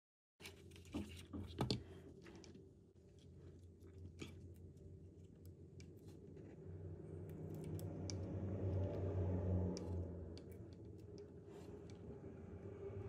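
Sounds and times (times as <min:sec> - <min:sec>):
low hum: 0:02.1 - 0:13.0.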